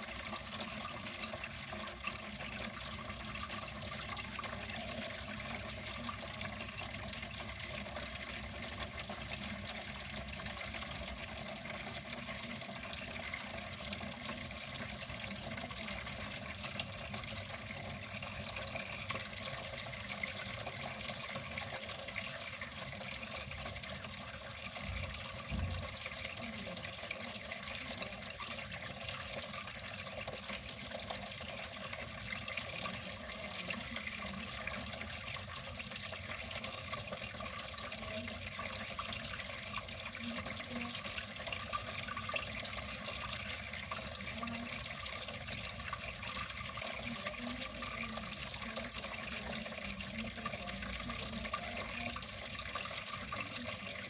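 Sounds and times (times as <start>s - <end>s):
water flowing: 0.0s - 54.0s.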